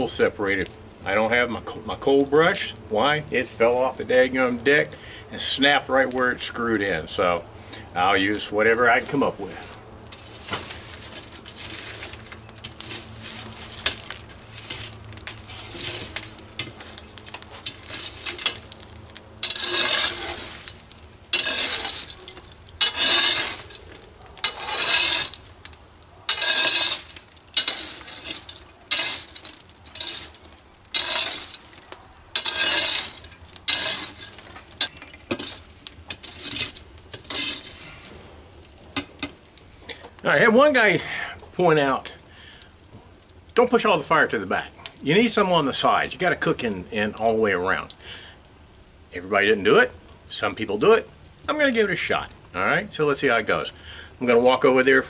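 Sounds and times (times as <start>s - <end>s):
embers raked across oven floor: 0.0s - 55.0s.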